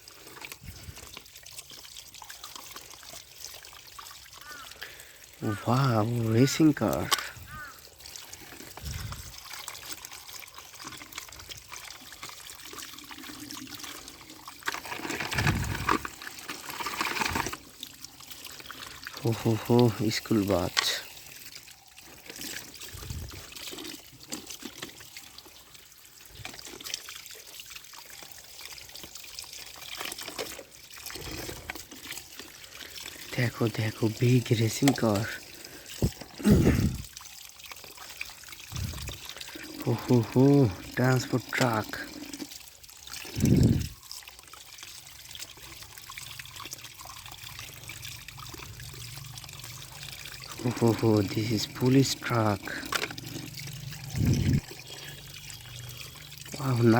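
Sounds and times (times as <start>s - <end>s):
water trickling and splashing: 0.0s - 56.9s.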